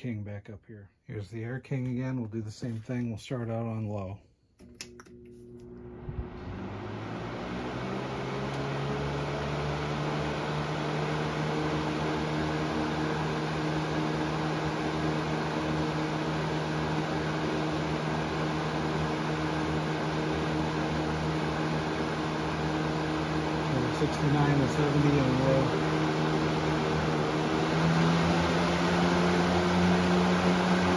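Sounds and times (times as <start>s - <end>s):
box fan running: 4.6s - 30.9s.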